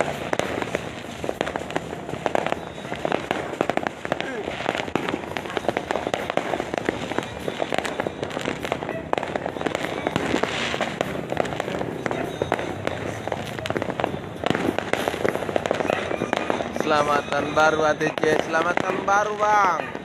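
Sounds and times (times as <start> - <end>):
firecrackers crackling: 0.0 - 20.0
sharp firework pops: 0.0 - 20.0.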